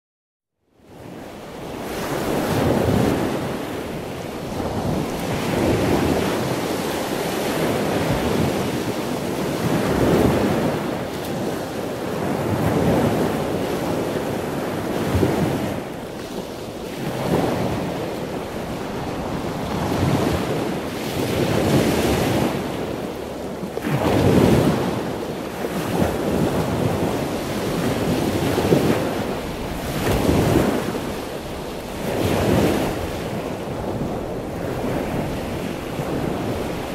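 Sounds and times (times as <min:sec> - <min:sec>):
wind buffeting microphone: 0:00.9 - 0:36.9
surf rushing: 0:01.4 - 0:36.9.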